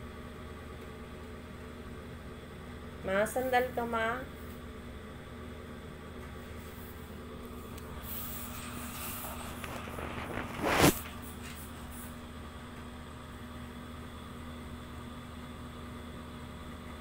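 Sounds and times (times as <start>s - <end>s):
air conditioner hum and hiss: 0.0s - 17.0s.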